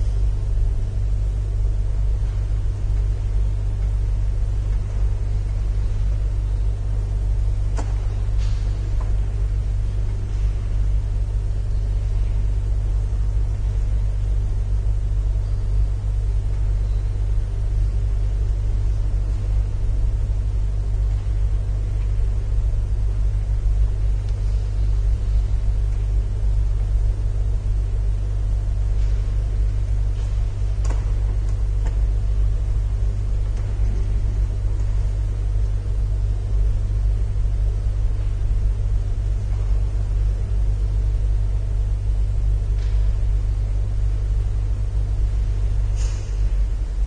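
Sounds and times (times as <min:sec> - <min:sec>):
steady low rumble and hum: 0:00.0 - 0:47.0.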